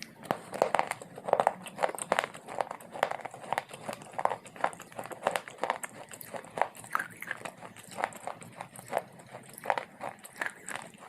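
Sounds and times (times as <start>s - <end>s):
chewing crunchy clay: 0.0s - 11.0s.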